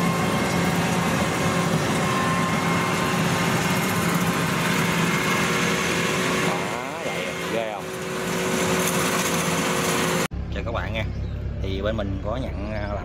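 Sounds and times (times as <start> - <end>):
combine harvester engine drone: 0.0 - 13.0
faint high machinery tones: 0.0 - 13.0.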